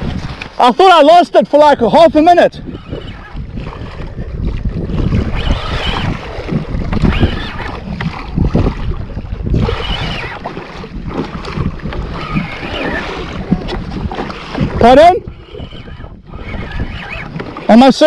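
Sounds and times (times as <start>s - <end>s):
water splashing against kayak: 0.0s - 18.0s
wind buffeting microphone: 0.0s - 18.0s.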